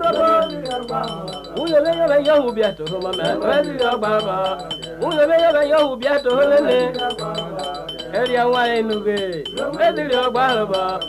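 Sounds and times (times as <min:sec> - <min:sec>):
people singing: 0:00.0 - 0:11.0
struck metal percussion: 0:00.0 - 0:11.0.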